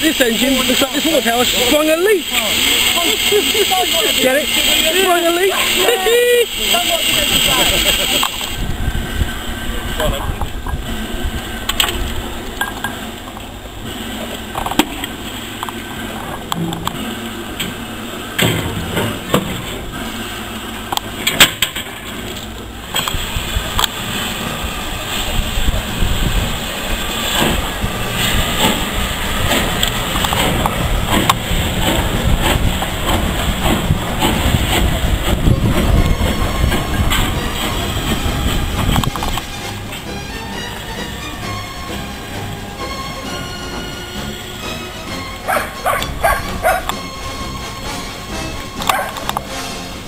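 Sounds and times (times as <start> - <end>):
steam locomotive working: 0.0 - 50.0.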